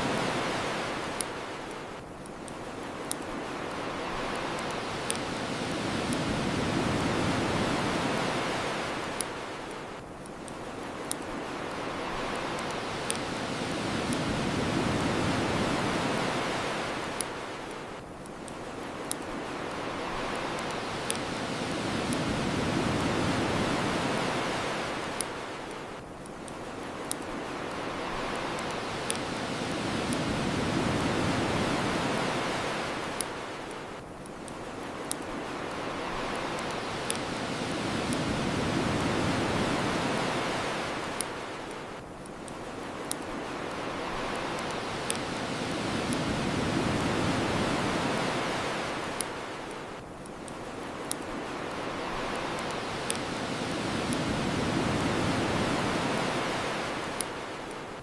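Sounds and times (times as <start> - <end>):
wood fire crackling: 0.0 - 57.9
ocean surf washing ashore: 0.0 - 58.0.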